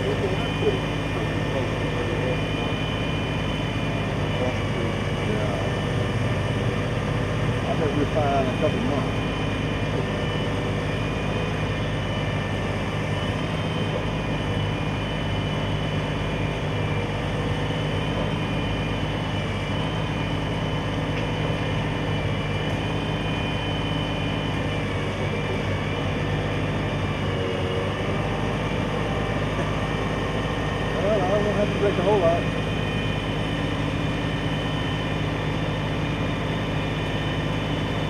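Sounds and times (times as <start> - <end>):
engine running steadily: 0.0 - 38.0
faint high whine: 0.0 - 38.0.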